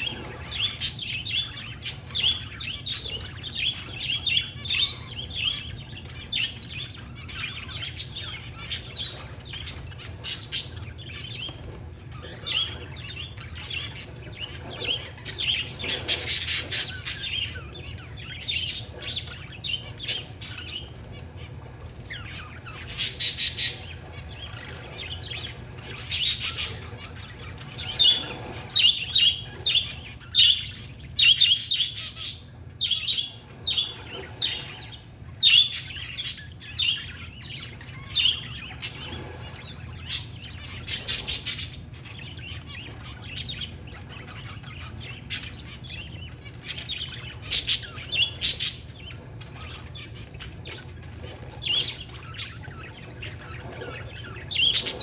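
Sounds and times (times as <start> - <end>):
birds chirping and chattering: 0.0 - 55.0
loud buzzy bird calls: 0.0 - 55.0.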